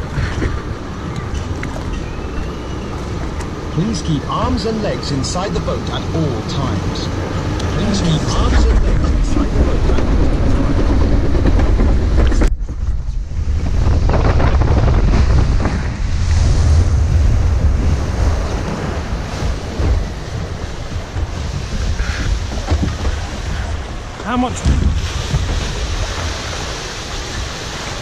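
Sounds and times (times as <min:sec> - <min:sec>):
rushing splashing water: 0:00.0 - 0:12.4, 0:13.3 - 0:28.0
wind buffeting microphone: 0:00.0 - 0:28.0.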